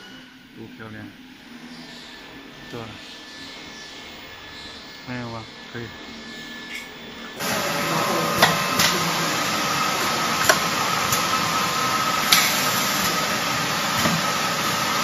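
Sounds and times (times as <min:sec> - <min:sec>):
faint high whine: 0:00.0 - 0:15.0
welding machine hissing: 0:00.0 - 0:15.0.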